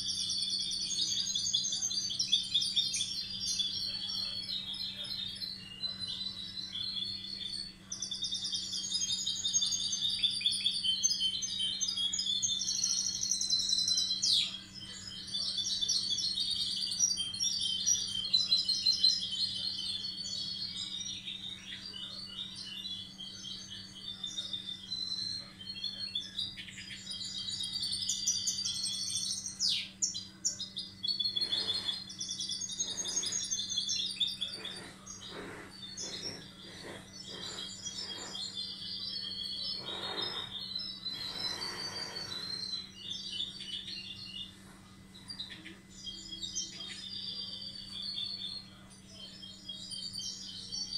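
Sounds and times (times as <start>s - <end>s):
finch twittering song: 0.0s - 50.9s.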